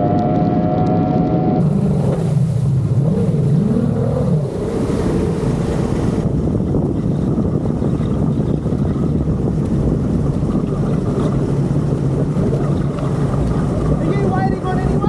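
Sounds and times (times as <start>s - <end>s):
wind buffeting microphone: 0.0s - 15.0s
outboard motors running: 0.1s - 15.0s.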